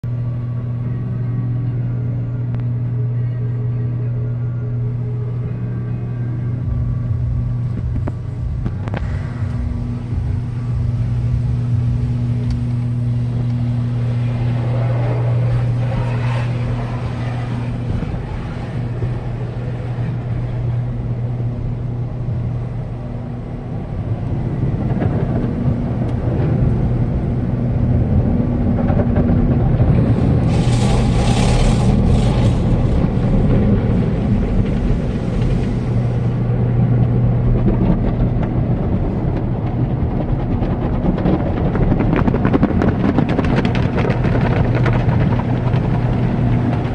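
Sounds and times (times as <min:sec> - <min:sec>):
car wash machinery rumbling: 0:00.0 - 0:46.9.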